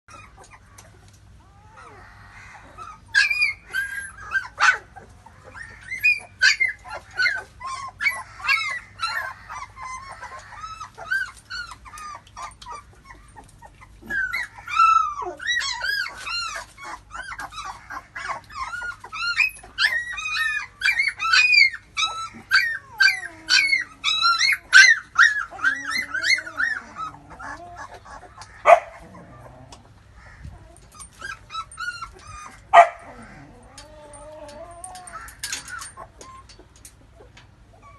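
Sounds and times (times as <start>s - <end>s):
puppies squeaking and whimpering: 0.1s - 37.9s.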